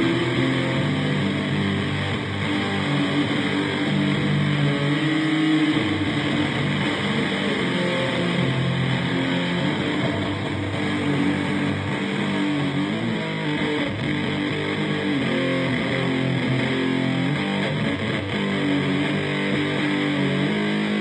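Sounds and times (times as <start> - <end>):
electric guitar droning riffs: 0.0 - 21.0.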